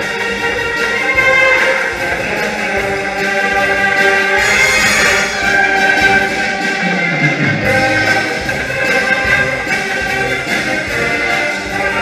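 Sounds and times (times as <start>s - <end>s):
wind band playing held chords: 0.0s - 12.0s.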